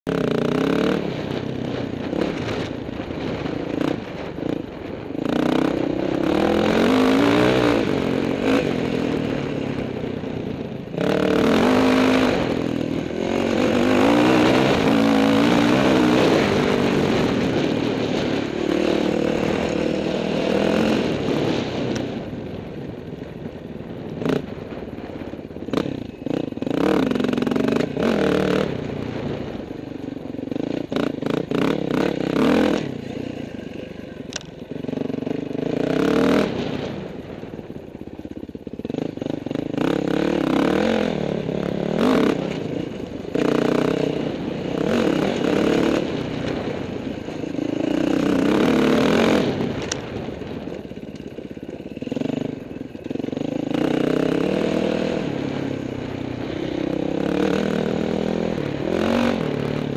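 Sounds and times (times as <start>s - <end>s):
dirt bike engine revving: 0.1s - 22.2s, 25.2s - 37.2s, 38.7s - 59.9s.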